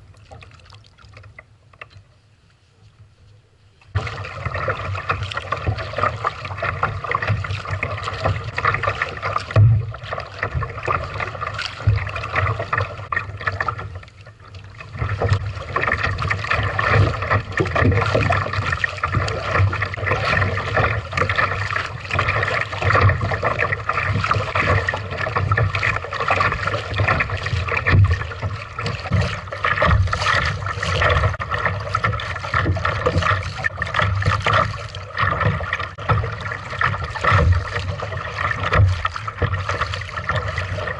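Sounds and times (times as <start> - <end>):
water splashing from paddling: 0.0 - 40.9
low rumble and thumps: 3.9 - 40.9.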